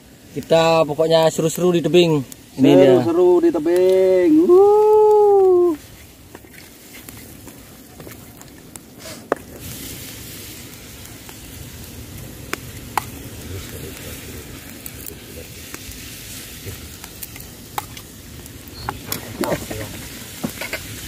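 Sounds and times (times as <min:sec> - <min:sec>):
fish frying in a pan: 0:00.0 - 0:21.0.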